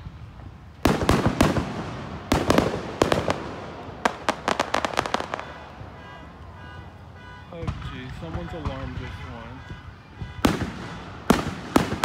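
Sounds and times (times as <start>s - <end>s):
fireworks bursting with loud bangs: 0.0s - 6.7s, 7.6s - 12.0s
fireworks crackling: 0.0s - 12.0s.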